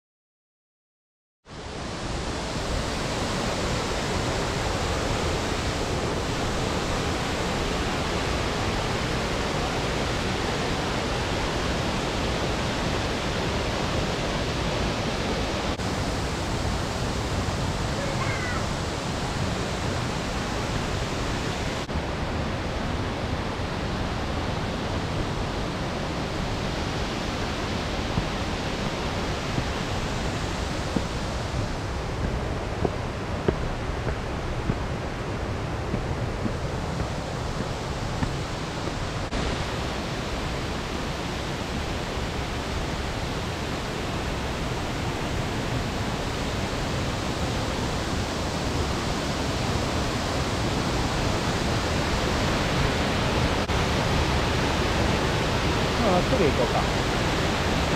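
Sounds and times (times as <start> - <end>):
waterfall rushing: 1.5 - 57.9.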